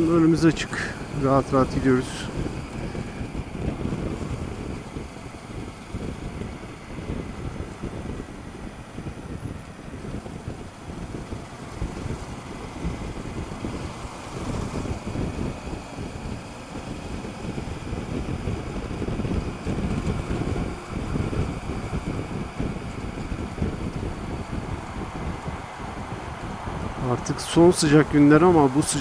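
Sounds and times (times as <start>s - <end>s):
road and engine rumble: 0.0s - 29.0s
wind buffeting microphone: 0.0s - 29.0s.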